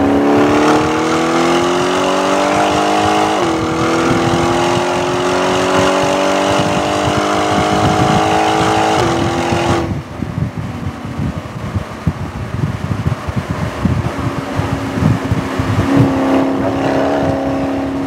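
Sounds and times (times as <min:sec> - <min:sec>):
car engine at full throttle: 0:00.0 - 0:18.0
wind noise: 0:00.0 - 0:18.0.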